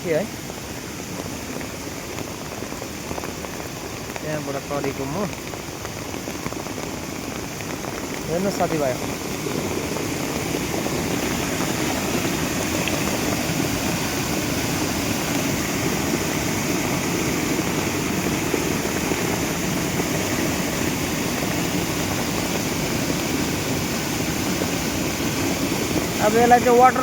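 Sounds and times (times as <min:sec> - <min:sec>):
mountain stream rushing: 0:00.0 - 0:27.0.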